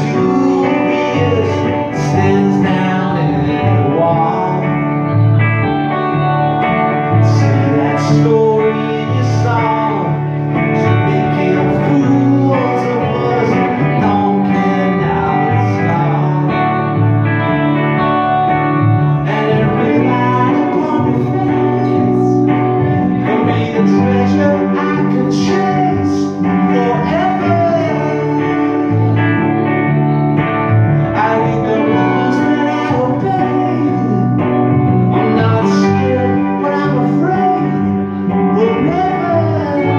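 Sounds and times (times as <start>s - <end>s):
electric guitars playing: 0.0s - 39.9s
man singing: 0.0s - 39.9s.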